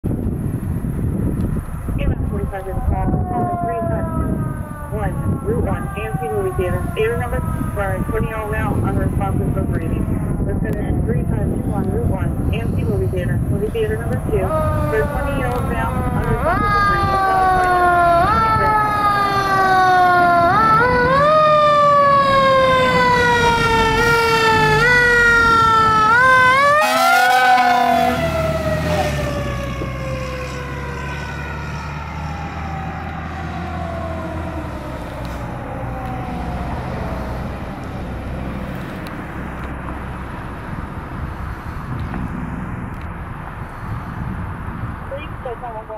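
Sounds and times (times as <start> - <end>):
truck engine: 0.0 - 45.1
fire engine siren wailing: 1.0 - 39.8.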